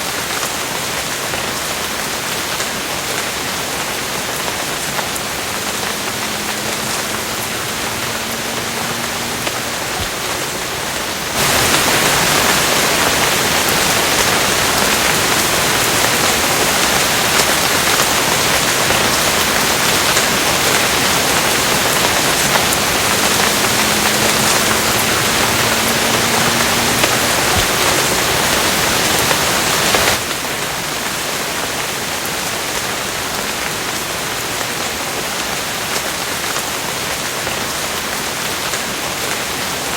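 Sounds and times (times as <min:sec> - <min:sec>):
dense rainfall hiss: 0:00.0 - 0:39.9.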